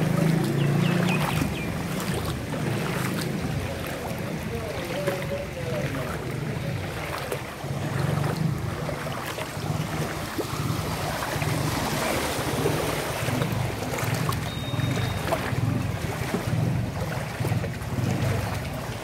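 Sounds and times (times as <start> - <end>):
water sloshing around wading legs: 0.0 - 19.0.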